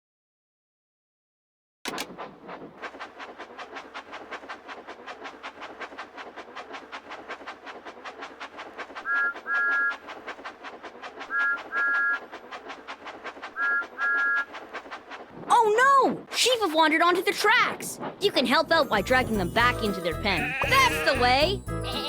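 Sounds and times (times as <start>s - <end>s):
steam train chuffing: 1.9s - 17.6s, 18.2s - 22.0s.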